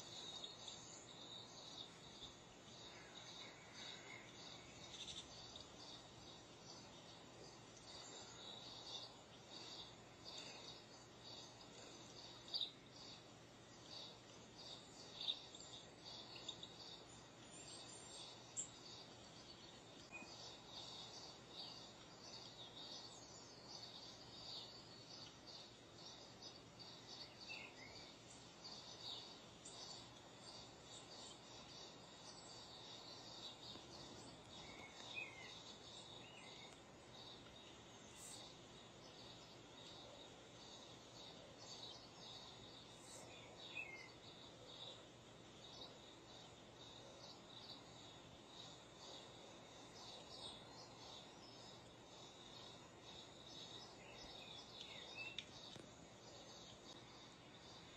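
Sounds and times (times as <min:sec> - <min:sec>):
steady hiss: 0:00.0 - 0:57.9.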